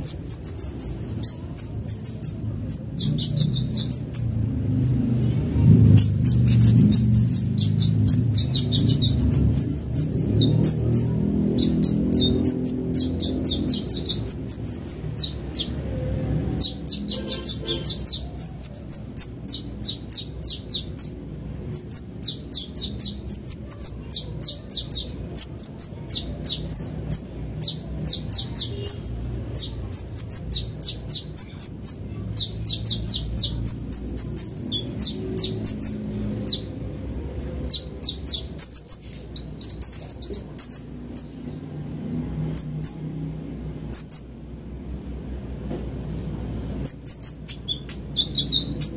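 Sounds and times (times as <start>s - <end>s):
sunbird chirping: 0.0s - 15.8s, 16.5s - 36.8s, 37.6s - 41.7s, 43.9s - 44.4s, 46.8s - 48.9s.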